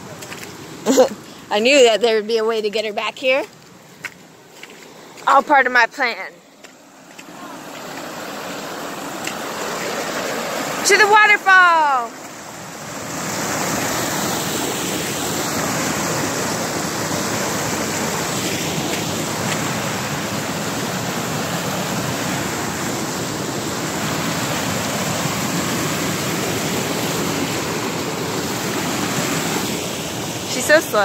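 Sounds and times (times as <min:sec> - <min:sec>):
creek water rushing over boulders: 0:00.0 - 0:31.0.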